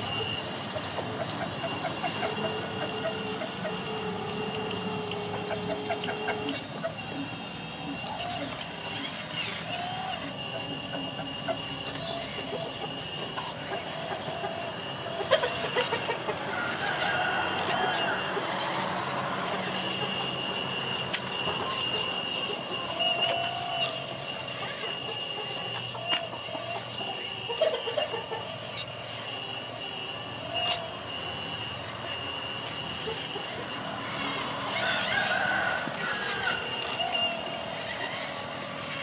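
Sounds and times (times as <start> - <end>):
hydraulic pump whining: 0.0 - 39.0.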